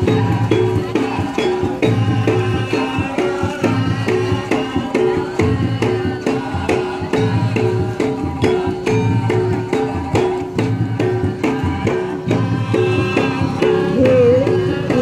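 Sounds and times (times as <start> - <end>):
drums: 0.0 - 15.0
gong-like metal percussion: 0.0 - 15.0.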